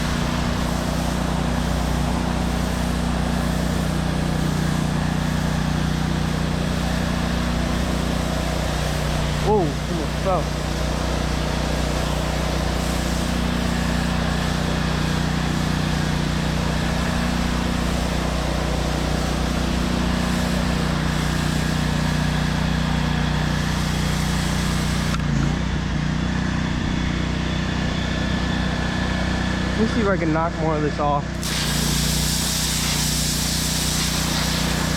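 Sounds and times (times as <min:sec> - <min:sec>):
pressure washer spray hissing: 0:00.0 - 0:25.2, 0:31.3 - 0:34.9
pressure washer machine hum: 0:00.0 - 0:34.9.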